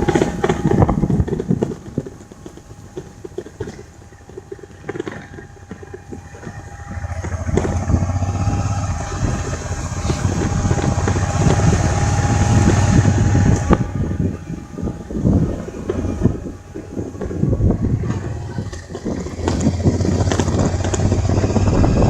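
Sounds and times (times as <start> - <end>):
vehicle jolting rumble: 0.0 - 22.0.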